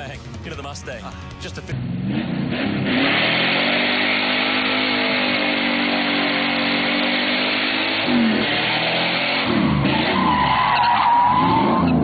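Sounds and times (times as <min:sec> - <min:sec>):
car engine revving hard: 0:01.2 - 0:12.0.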